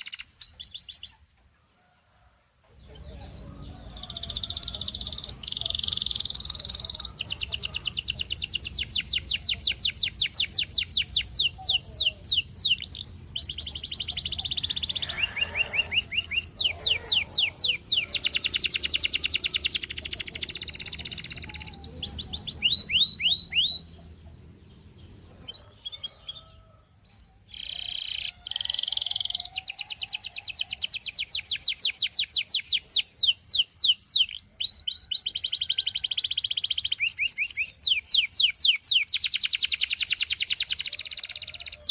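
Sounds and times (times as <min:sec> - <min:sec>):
canary singing trills: 0:00.0 - 0:01.3, 0:02.8 - 0:41.9.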